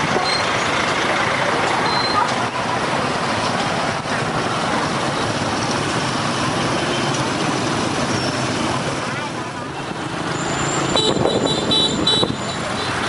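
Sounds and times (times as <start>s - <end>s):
motorbike and scooter traffic: 0.0s - 13.0s
road noise: 0.0s - 13.0s.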